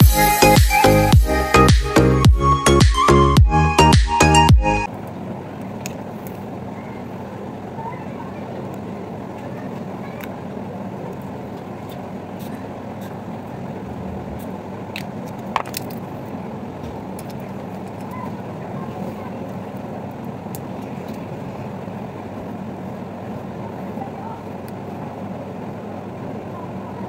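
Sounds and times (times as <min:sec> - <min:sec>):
low background noise: 0:04.8 - 0:27.0.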